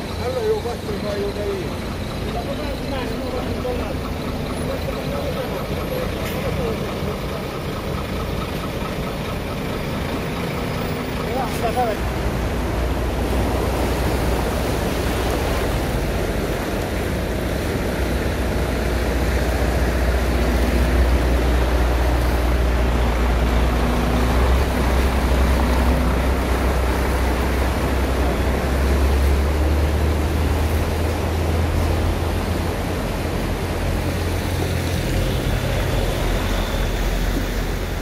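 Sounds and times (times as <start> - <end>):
tyres splashing through water: 0.0 - 38.0.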